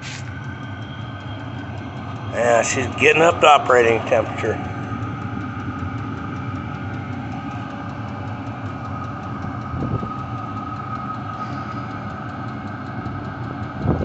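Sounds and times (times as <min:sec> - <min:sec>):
fuel pump ticking: 0:00.0 - 0:14.0
heater whirring hum with whine: 0:00.0 - 0:14.0.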